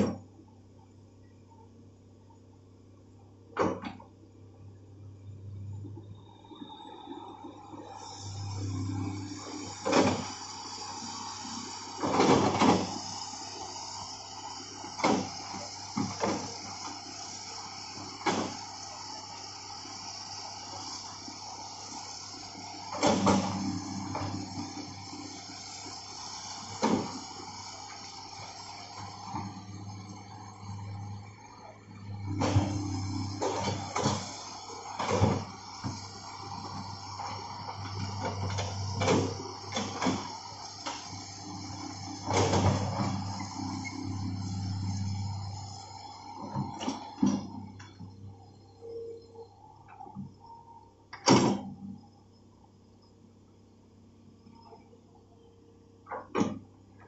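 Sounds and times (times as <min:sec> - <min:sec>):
excavator diesel engine running: 0:03.7 - 0:51.3.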